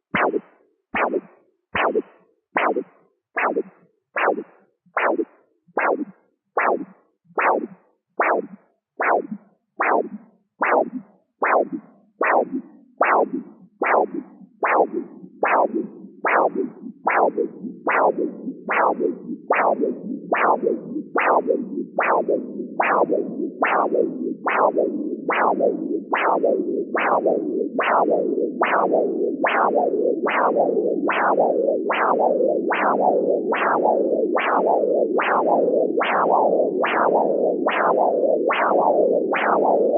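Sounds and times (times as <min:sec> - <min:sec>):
continuous flow sound: 0:01.8 - 0:39.9
pulsing ultrasound whooshes: 0:05.8 - 0:39.9.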